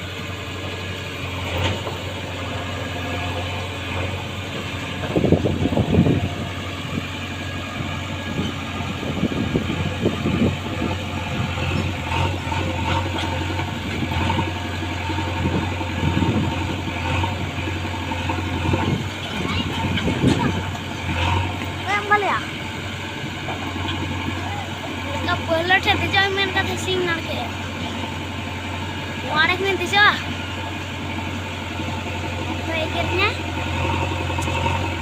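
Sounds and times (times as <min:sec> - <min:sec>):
diesel engine running at low revs: 0:00.0 - 0:35.0.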